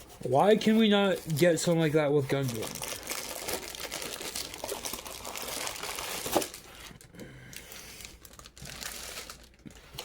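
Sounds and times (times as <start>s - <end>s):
plastic packaging crinkling: 0.6s - 7.1s, 8.0s - 10.0s.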